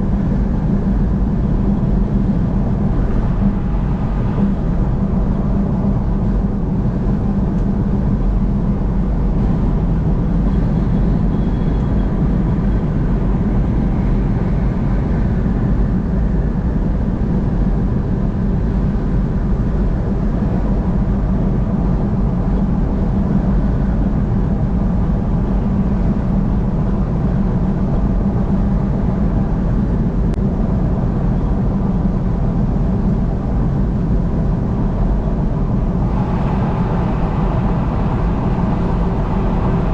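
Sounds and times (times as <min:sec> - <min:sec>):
vehicle road noise drone: 0:00.0 - 0:39.9.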